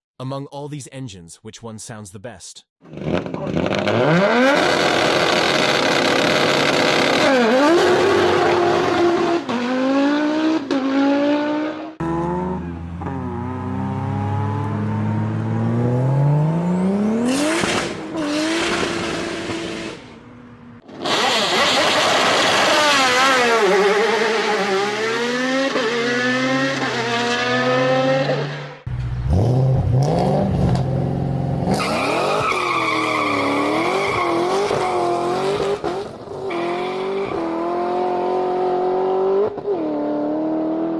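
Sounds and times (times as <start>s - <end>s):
car engines revving: 2.8s - 40.9s.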